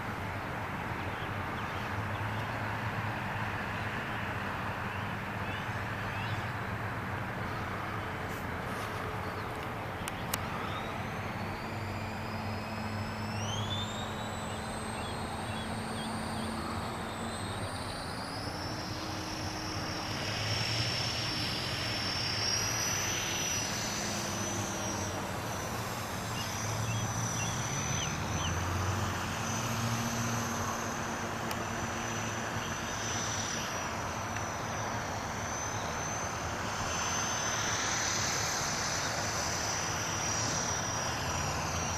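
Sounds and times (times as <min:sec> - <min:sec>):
model airplane motor whine: 0:00.0 - 0:41.9.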